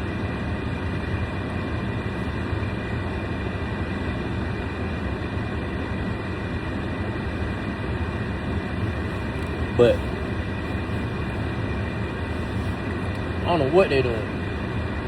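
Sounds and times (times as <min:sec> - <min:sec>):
car cabin rumble and hiss: 0:00.0 - 0:15.0
car heater blowing: 0:00.0 - 0:15.0.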